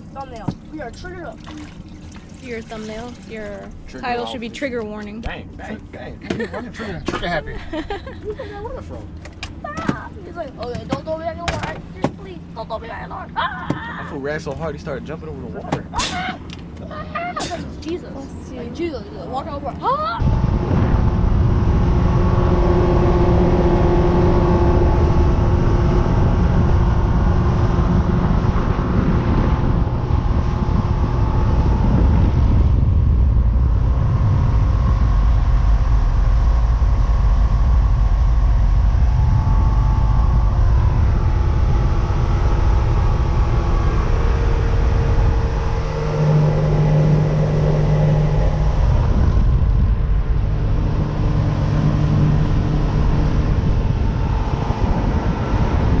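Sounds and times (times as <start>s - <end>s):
motorboat engine drone: 0.0s - 56.0s
wind and water rumble: 0.0s - 56.0s.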